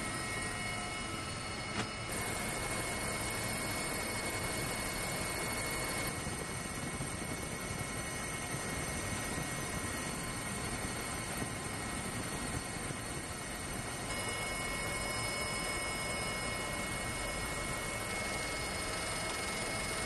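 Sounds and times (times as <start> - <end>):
helicopter rotor and turbine: 0.0 - 20.0
high-pitched whines: 0.0 - 20.0.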